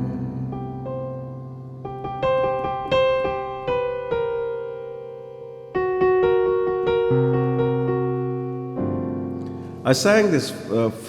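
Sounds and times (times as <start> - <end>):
piano playing gentle chords: 0.0 - 11.0.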